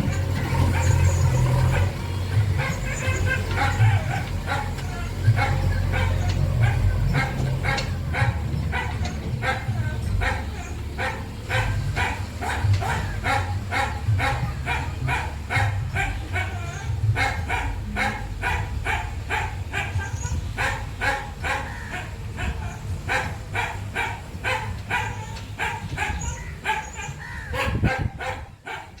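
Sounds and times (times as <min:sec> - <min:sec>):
dog barking: 0:00.0 - 0:29.0
low engine hum: 0:00.0 - 0:29.0.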